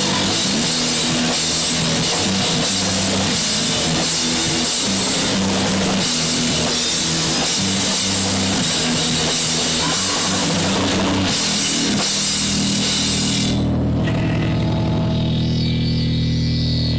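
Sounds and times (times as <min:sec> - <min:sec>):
crashing cymbals: 0:00.0 - 0:13.6
punk rock band playing: 0:00.0 - 0:13.6.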